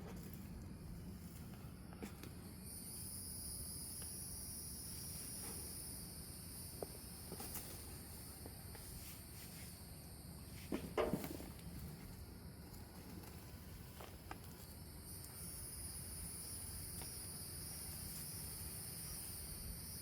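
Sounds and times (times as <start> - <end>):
faint ticks and scrapes: 0.0 - 3.0, 6.6 - 20.0
insects trilling: 0.0 - 20.0.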